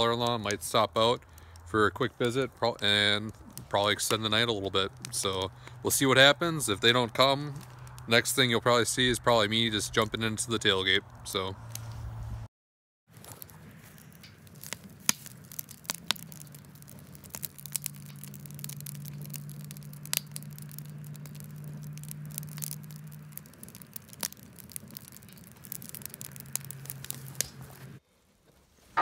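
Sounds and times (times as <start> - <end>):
fire crackling and popping: 0.0 - 12.5, 13.1 - 28.0.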